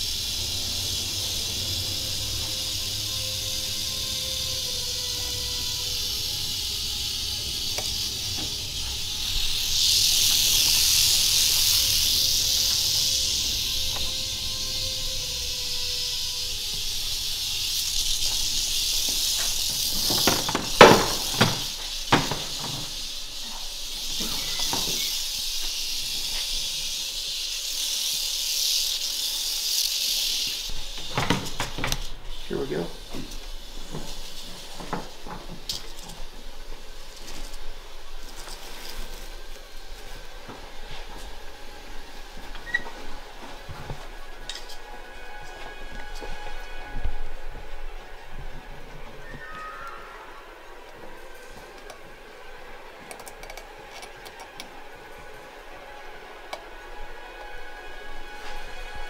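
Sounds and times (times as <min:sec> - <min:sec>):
rattlesnake rattling: 0:00.0 - 0:59.0.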